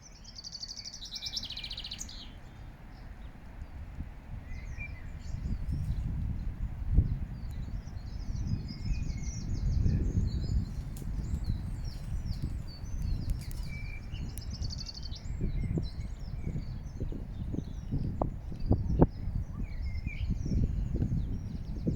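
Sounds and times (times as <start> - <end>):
songbirds chirping: 0.0 - 21.9
steady low rumble: 2.0 - 21.9.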